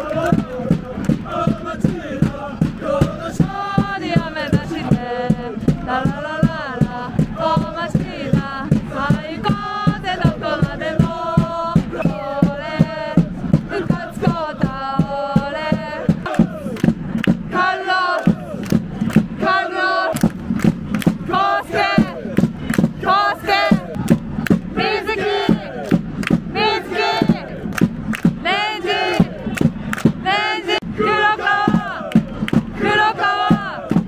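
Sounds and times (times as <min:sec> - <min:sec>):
crowd singing a chant: 0:00.0 - 0:34.0
steady drum beat: 0:00.0 - 0:34.0.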